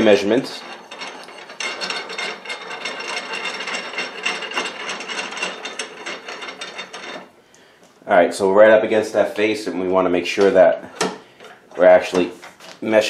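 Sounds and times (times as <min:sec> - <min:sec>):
metallic scraping and rubbing: 0:00.0 - 0:07.5, 0:08.7 - 0:13.0.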